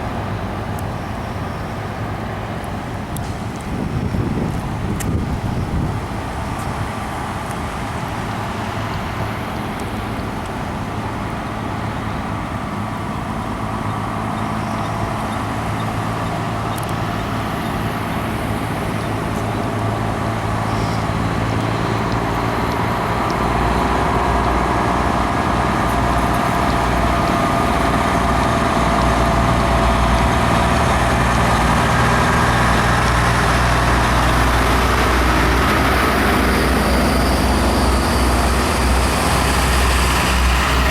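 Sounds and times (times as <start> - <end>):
truck engines droning: 0.0 - 40.9.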